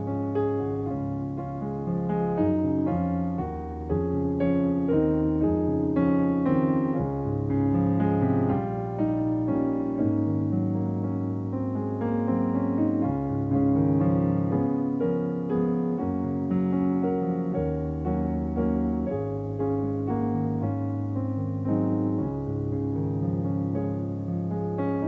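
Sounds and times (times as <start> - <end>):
piano playing slow chords: 0.0 - 25.0.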